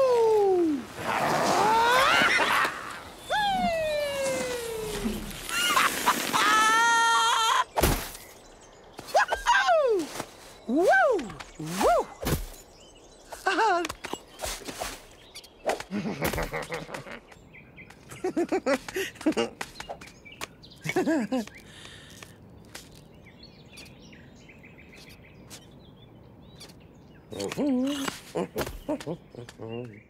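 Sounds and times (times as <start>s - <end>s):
faint birdsong: 0.0s - 30.0s.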